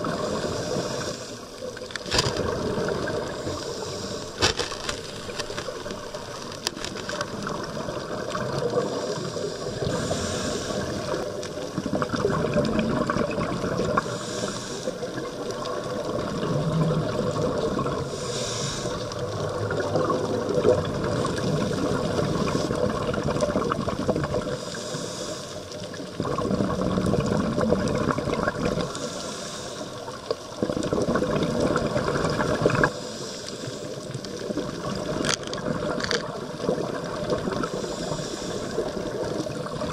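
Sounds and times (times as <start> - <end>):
scuba bubbles hissing: 0.0 - 39.9
underwater churning wash: 0.0 - 39.9.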